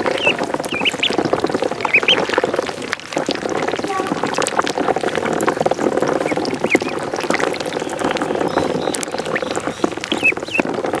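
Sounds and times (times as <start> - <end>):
ducklings peeping: 0.0 - 11.0
water splashing in pond: 0.0 - 11.0.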